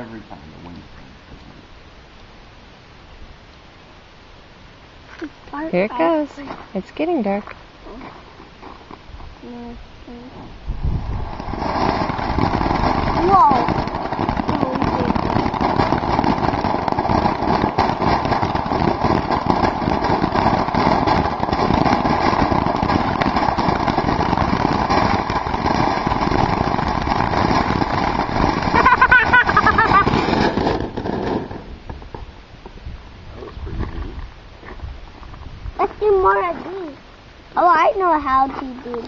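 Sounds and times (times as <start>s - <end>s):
firework fountain crackling hiss: 0.0s - 39.0s.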